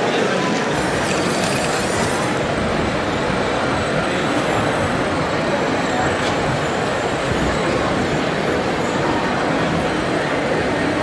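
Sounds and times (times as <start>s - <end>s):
model truck running: 0.0s - 11.0s.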